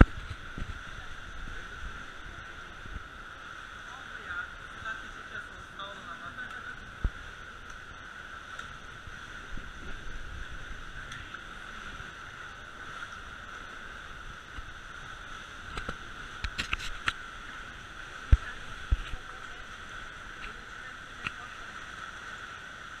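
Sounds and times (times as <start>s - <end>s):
water wash: 0.0s - 23.0s.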